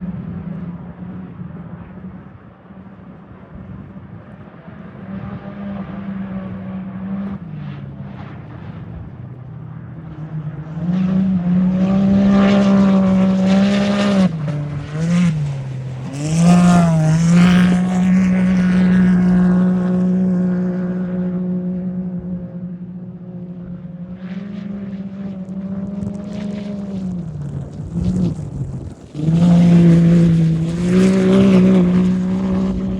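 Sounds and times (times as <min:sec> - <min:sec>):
off-road vehicle engine high pitch: 0:00.0 - 0:32.9.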